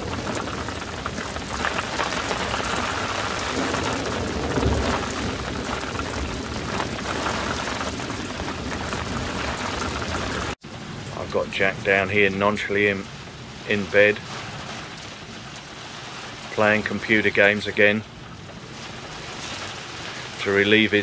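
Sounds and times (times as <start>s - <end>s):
wind and rain hiss: 0.0s - 21.0s
wind gusts rumbling on microphone: 0.0s - 21.0s.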